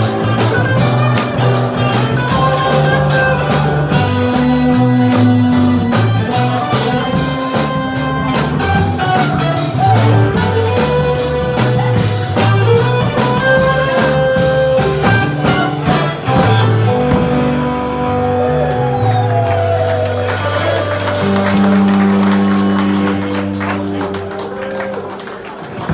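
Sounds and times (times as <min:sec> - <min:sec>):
drum kit: 0:00.0 - 0:25.1
bass guitar: 0:00.0 - 0:25.3
electric guitar: 0:00.0 - 0:25.3.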